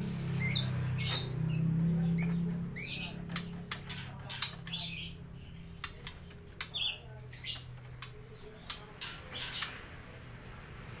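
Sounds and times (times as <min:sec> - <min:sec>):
thin steady high tone: 0:00.0 - 0:11.0
bird high chirps and clicks: 0:00.1 - 0:09.8.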